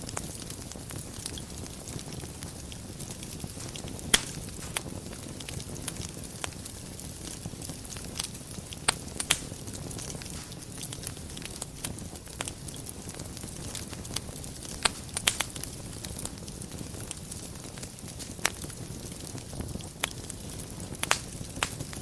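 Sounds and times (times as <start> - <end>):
fire crackling and popping: 0.0 - 22.0
fire flames rumbling: 0.0 - 22.0.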